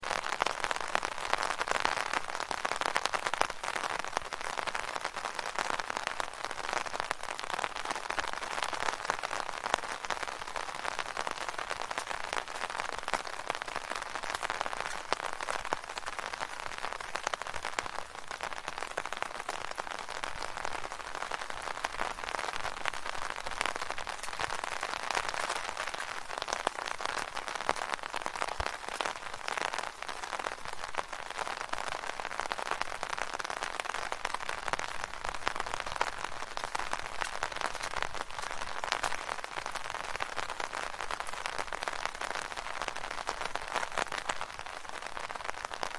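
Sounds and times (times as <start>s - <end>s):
rain pattering on an umbrella: 0.0s - 45.9s.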